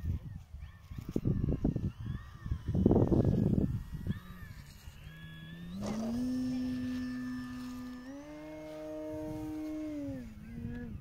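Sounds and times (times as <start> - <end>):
model plane motor whine: 0.8 - 11.0.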